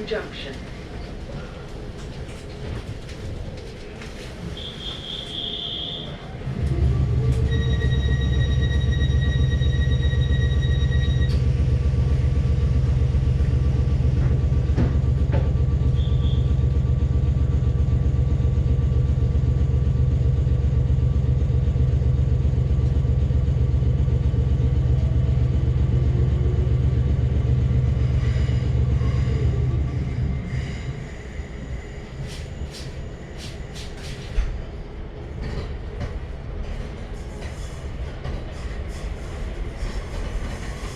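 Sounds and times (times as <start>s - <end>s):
electric train rumbling: 0.0s - 40.9s.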